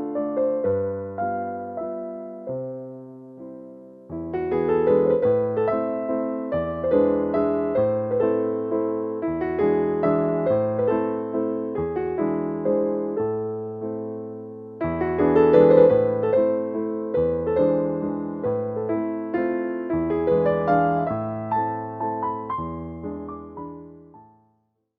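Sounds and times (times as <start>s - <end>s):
gentle piano music: 0.0s - 24.6s.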